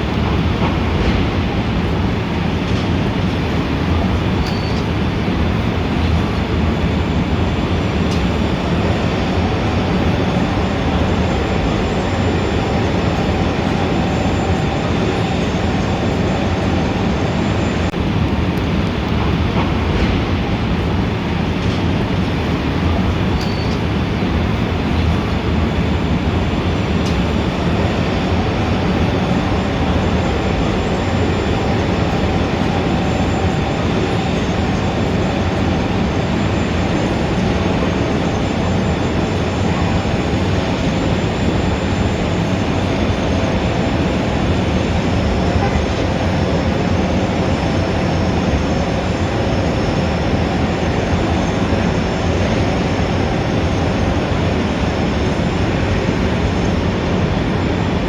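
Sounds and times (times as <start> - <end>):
city street traffic rumble: 0.0 - 58.0.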